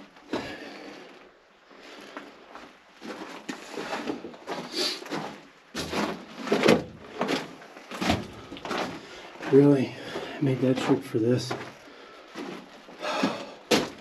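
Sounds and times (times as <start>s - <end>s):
footsteps crunching on loose rock: 1.9s - 14.0s.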